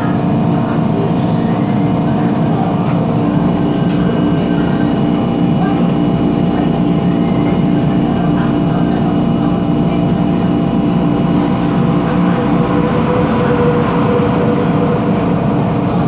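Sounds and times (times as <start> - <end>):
electric train hum and rumble: 0.0 - 16.0.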